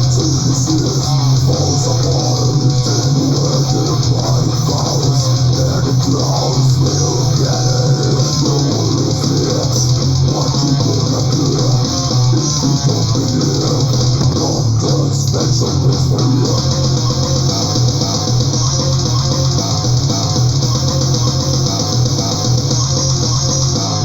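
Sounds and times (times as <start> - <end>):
bass guitar riff: 0.0 - 24.0
distorted electric guitars: 0.0 - 24.0.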